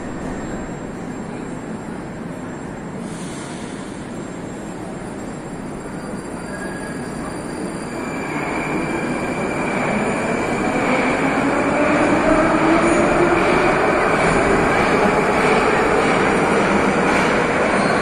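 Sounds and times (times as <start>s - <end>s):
train rolling noise: 0.0s - 18.0s.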